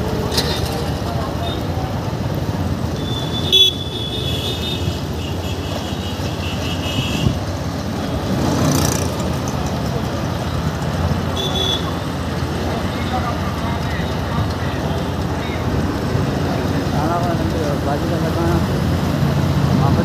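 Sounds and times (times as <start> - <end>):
traffic rumble with motorbikes: 0.0 - 20.0.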